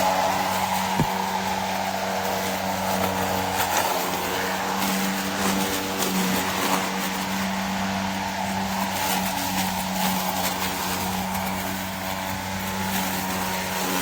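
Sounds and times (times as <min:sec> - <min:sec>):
electric lawn mower humming: 0:00.0 - 0:14.0.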